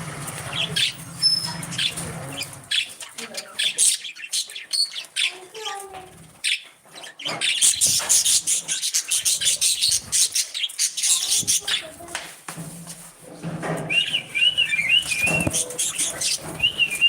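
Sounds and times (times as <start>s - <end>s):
budgies chirping in a flock: 0.0s - 12.7s, 13.4s - 17.0s.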